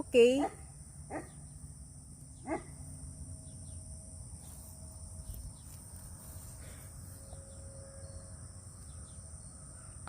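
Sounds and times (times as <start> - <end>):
insects trilling: 0.0 - 10.0
low outdoor rumble: 0.0 - 10.0.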